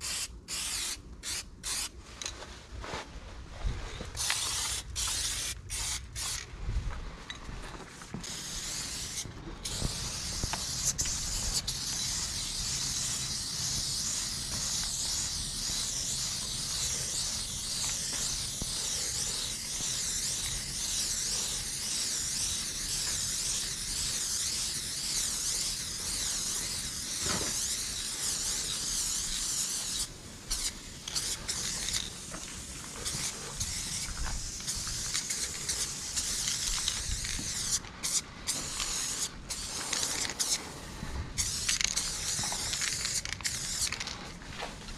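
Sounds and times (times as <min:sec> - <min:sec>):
spray paint can hissing: 0:00.0 - 0:02.3, 0:04.2 - 0:06.5, 0:08.1 - 0:44.2.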